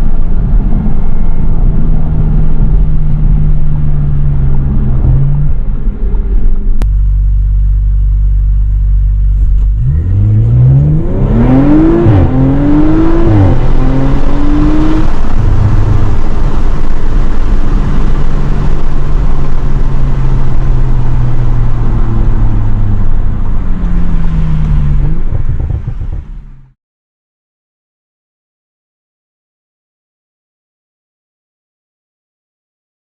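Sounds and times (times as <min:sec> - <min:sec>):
car engine accelerating hard: 0:00.0 - 0:26.8.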